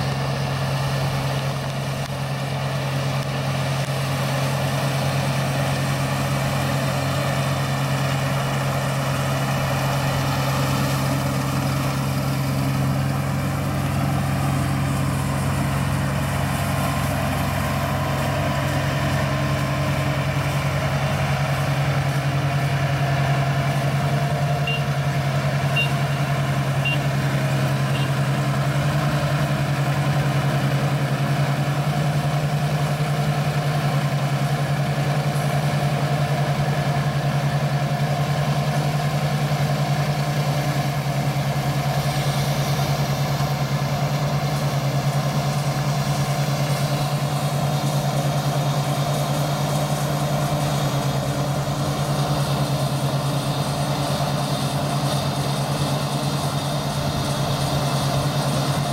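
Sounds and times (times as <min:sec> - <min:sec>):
combine harvester engine drone: 0:00.0 - 0:58.9.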